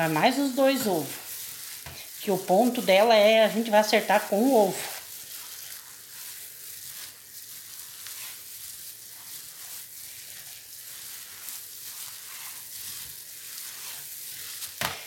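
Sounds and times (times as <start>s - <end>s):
gloved hands kneading crumbly dough: 0.0s - 15.0s.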